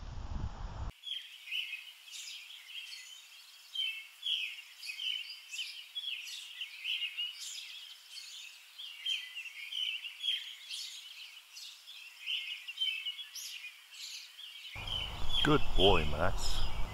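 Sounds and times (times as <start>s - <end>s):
songbirds chirping and singing: 0.9s - 16.9s.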